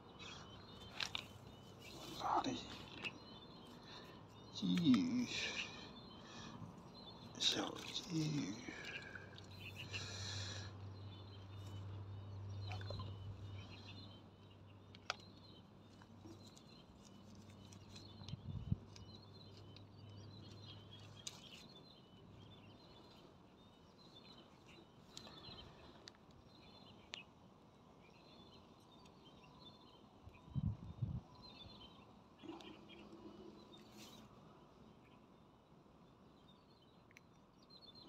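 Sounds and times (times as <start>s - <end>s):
faint birds chirping: 0.0s - 38.0s.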